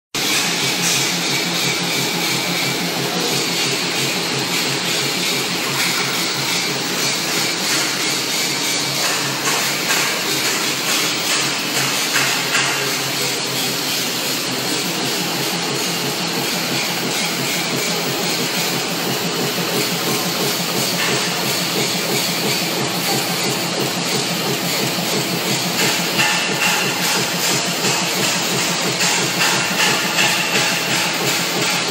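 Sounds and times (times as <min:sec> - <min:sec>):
screw-making machine running: 0:00.2 - 0:31.9.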